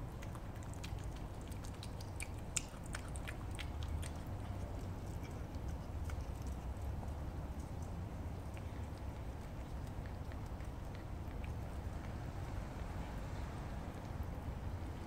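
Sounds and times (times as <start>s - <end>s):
cats chewing and lapping food: 0.0s - 15.0s
low background rumble: 0.0s - 15.0s.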